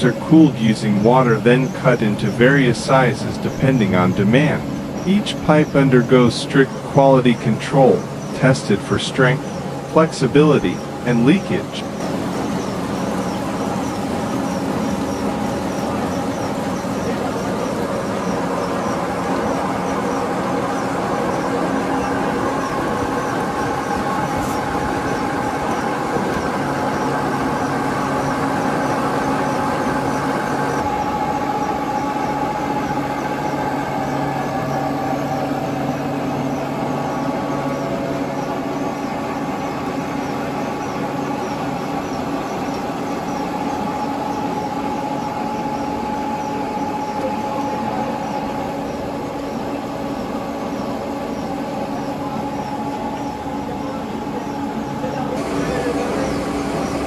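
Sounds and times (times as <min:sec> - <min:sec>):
machinery humming: 0:00.0 - 0:57.0
steady whining tones: 0:00.0 - 0:57.0.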